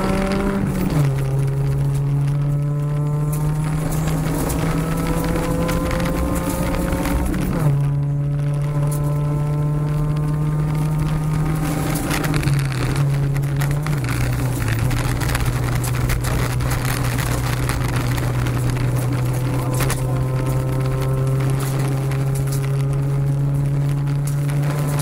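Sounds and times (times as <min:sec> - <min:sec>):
car engine driven hard: 0:00.0 - 0:25.0
tyres on gravel: 0:00.0 - 0:25.0.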